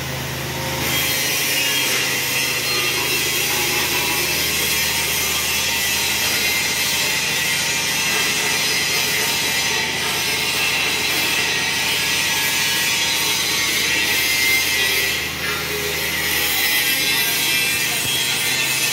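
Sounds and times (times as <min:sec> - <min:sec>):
brick making machine running: 0:00.0 - 0:18.9.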